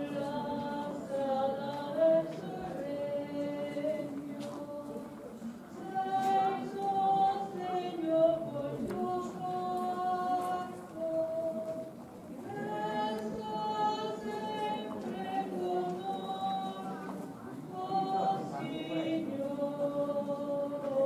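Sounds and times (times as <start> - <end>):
group singing a hymn: 0.0 - 21.0.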